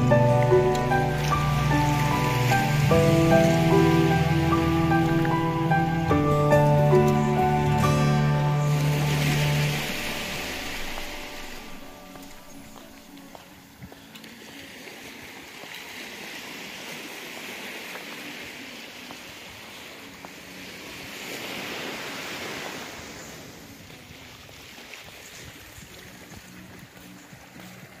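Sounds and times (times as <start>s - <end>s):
small waves washing onto sand: 0.0s - 28.0s.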